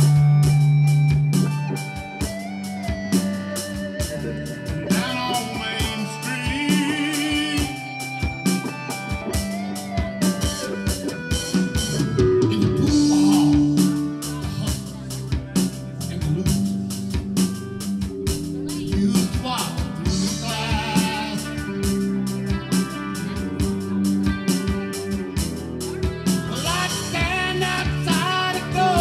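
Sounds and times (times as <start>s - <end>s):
drum kit beat: 0.0s - 29.0s
electric guitars: 0.0s - 29.0s.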